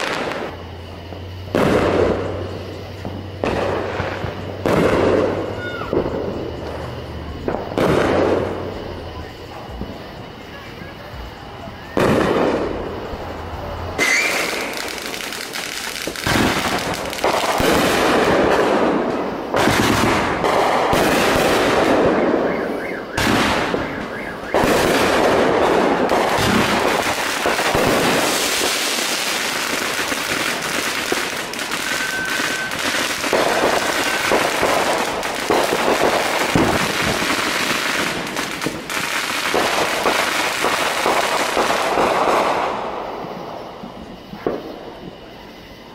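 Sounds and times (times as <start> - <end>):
fireworks bangs: 0.0 - 45.8
fireworks crackling and popping: 0.0 - 45.9.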